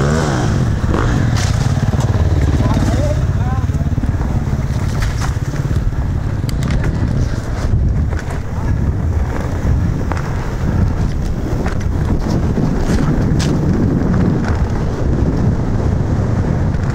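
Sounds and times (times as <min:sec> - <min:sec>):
bike rattling over rough trail: 0:00.0 - 0:16.9
wind buffeting microphone: 0:00.0 - 0:16.9.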